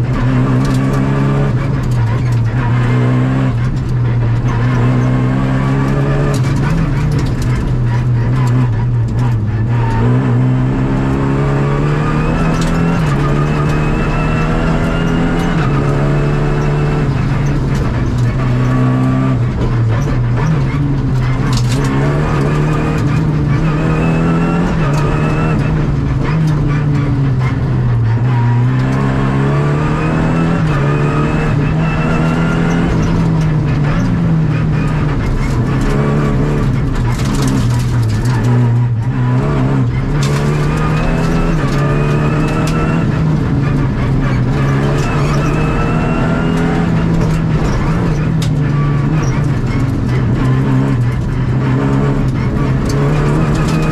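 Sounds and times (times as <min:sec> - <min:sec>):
rally car engine revving: 0:00.0 - 0:53.9
road and tyre noise: 0:00.0 - 0:53.9.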